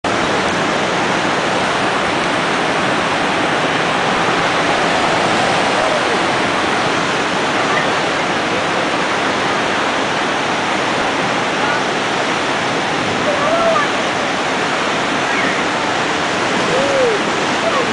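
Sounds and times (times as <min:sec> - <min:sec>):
whitewater rushing: 0:00.0 - 0:17.9.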